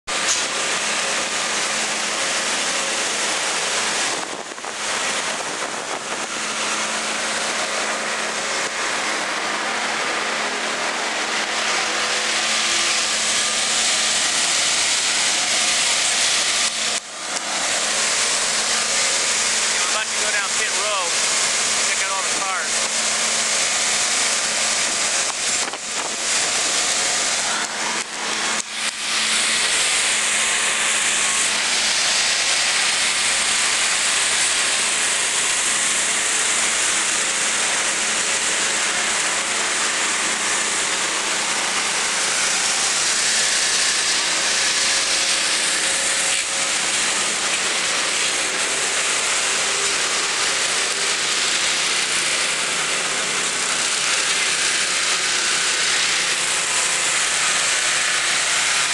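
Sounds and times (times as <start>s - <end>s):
loud even hiss: 0.1s - 58.9s.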